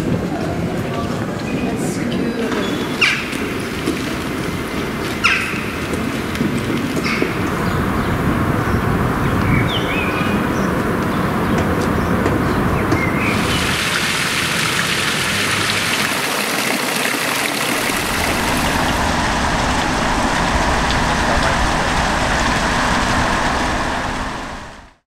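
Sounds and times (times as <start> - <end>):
low rumble of city traffic: 0.0 - 25.0
fountain water splashing: 2.8 - 12.0, 13.0 - 25.0.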